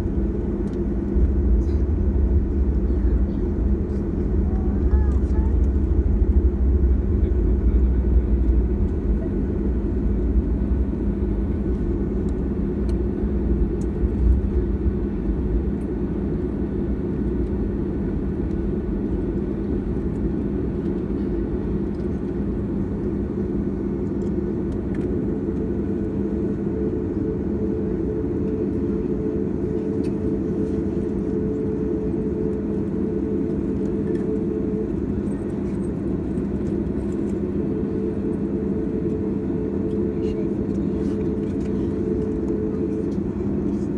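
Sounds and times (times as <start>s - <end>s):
jet engines droning: 0.0s - 43.9s.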